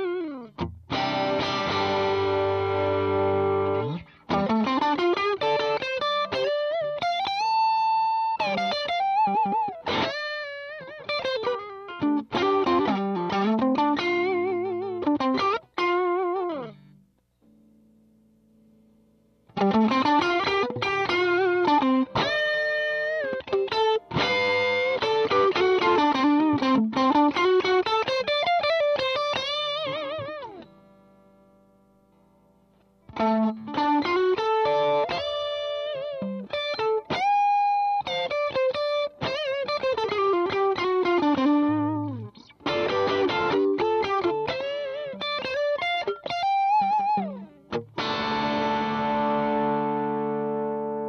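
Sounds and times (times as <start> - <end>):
overdriven electric guitar: 0.0 - 51.0.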